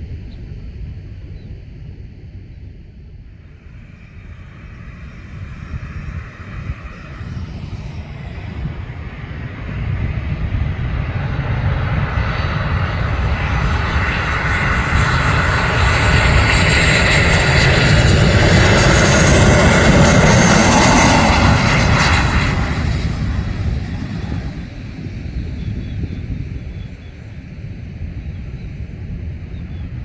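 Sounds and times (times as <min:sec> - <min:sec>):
jet engines rumbling and hissing: 0:00.0 - 0:30.0.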